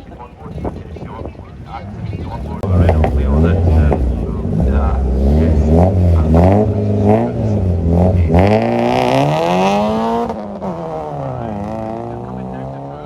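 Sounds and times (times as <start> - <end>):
rally car engine revving: 0.5 - 13.0.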